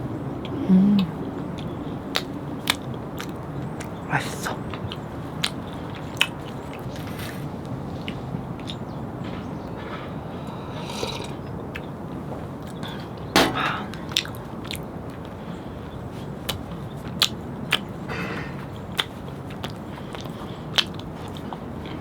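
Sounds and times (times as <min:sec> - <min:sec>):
chewing and biting: 0:00.1 - 0:22.0.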